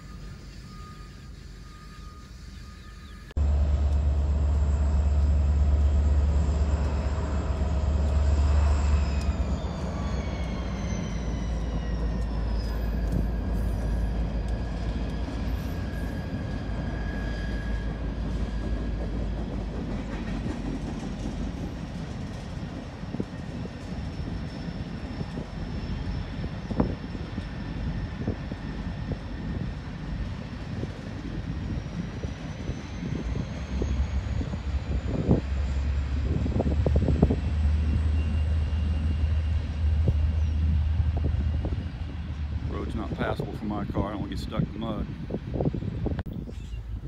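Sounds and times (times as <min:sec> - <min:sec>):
diesel locomotive engine rumble: 0:00.0 - 0:47.0
freight cars rumbling and rattling: 0:03.3 - 0:47.0.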